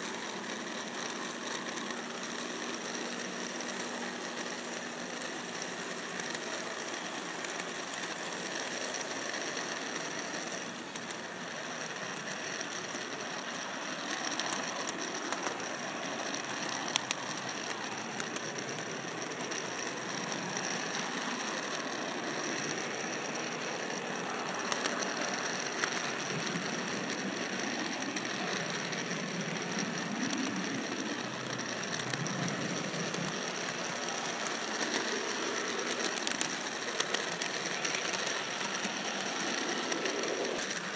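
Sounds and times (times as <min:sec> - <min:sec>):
model train motor whirring: 0:00.0 - 0:40.9
wheels clicking on track: 0:00.0 - 0:40.9.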